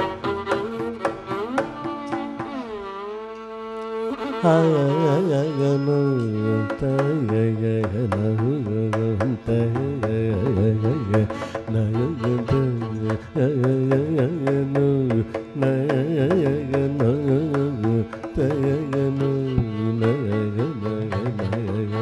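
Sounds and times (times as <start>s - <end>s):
mridangam drum strokes: 0.0s - 3.3s, 4.4s - 22.0s
violin melody: 0.0s - 22.0s
man singing: 4.1s - 22.0s.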